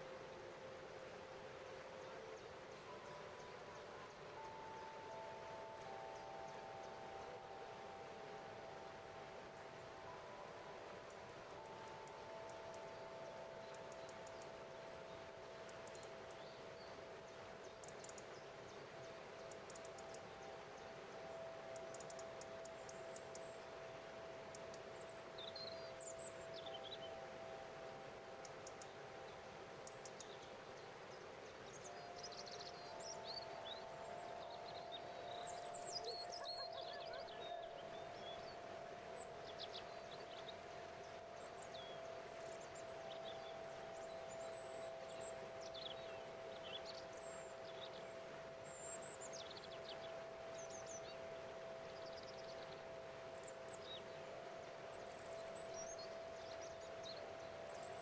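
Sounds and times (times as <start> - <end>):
birds chirping: 0.0 - 58.0
crystal singing bowls ringing: 0.0 - 58.0
water rushing in cascade: 0.0 - 58.0.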